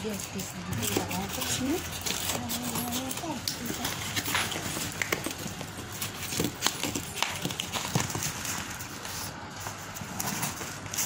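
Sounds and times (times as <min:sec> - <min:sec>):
plastic wrap crackling: 0:00.0 - 0:11.0.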